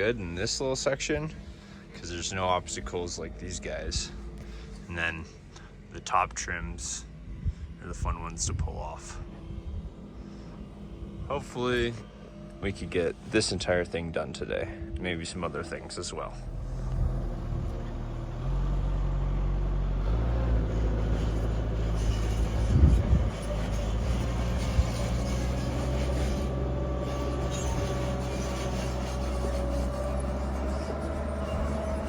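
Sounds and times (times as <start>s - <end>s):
motor running drone: 1.2s - 32.0s.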